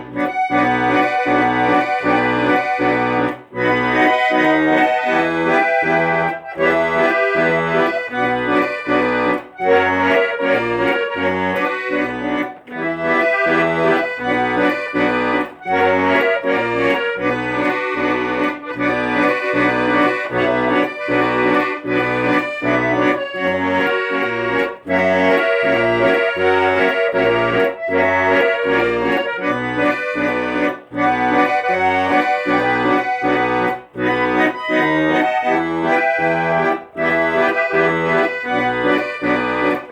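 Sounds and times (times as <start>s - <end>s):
accordion melody: 0.0s - 39.9s
rhythmic bass accompaniment: 0.0s - 39.9s.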